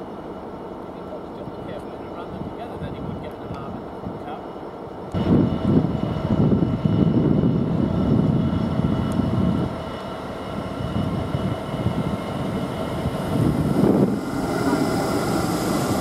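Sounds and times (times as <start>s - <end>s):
low uneven train rumble: 0.0s - 16.0s
train humming with held tones: 0.0s - 16.0s.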